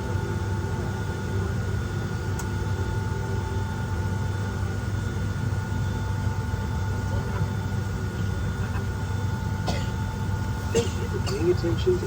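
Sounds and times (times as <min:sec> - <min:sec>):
airliner cabin hum: 0:00.0 - 0:12.0.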